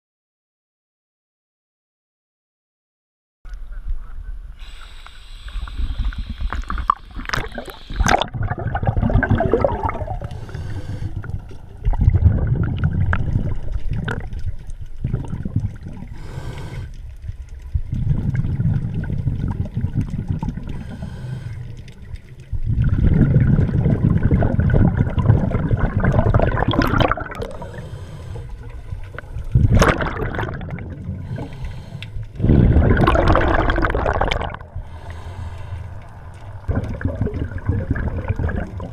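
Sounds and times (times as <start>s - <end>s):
underwater bubbles gurgling: 4.6s - 38.9s.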